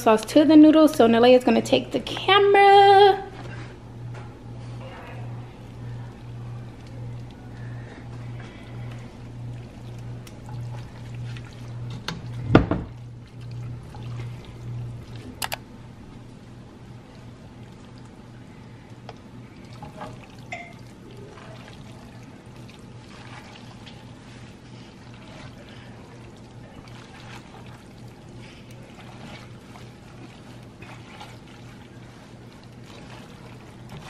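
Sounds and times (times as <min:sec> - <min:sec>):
steady low hum: 0:00.0 - 0:34.0
wet stirring of sauce and pasta: 0:02.0 - 0:34.0.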